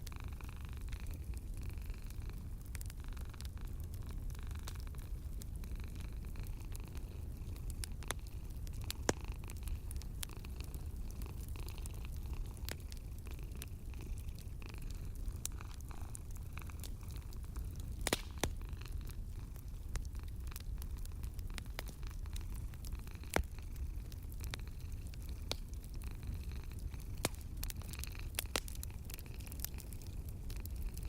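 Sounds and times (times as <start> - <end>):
cat purring: 0.0 - 31.0
fire popping: 0.0 - 31.0
fireplace fire crackling: 0.0 - 31.0.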